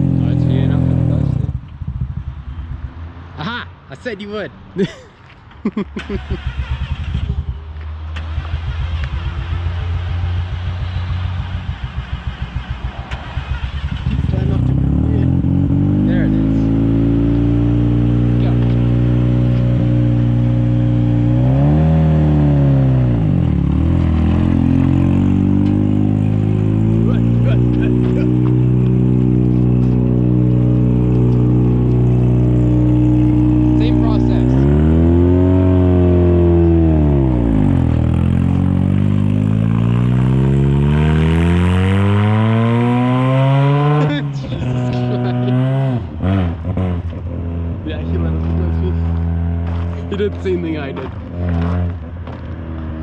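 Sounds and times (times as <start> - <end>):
rotary engine accelerating: 6.0 - 53.0.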